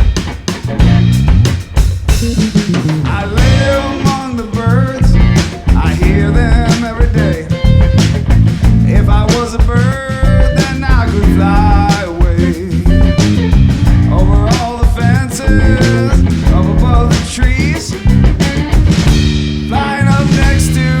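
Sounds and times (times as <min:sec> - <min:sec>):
bass guitar: 0:00.0 - 0:21.0
drum kit: 0:00.0 - 0:21.0
guitar: 0:00.0 - 0:21.0.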